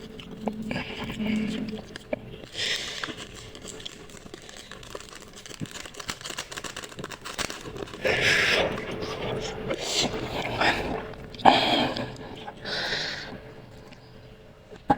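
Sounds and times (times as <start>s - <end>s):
wet chewing clicks: 0.0s - 14.9s.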